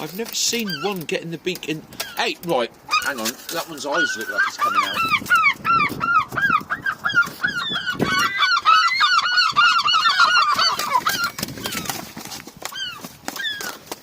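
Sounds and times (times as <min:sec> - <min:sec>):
seagulls squawking: 0:00.0 - 0:01.3, 0:01.9 - 0:14.0.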